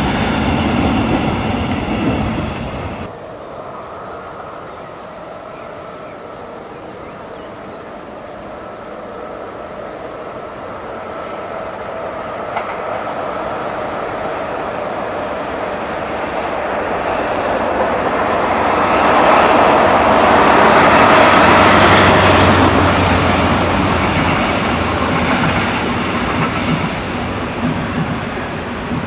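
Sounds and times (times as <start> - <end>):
diesel locomotive engine: 0.0 - 29.0
train wheels on rails: 0.0 - 29.0.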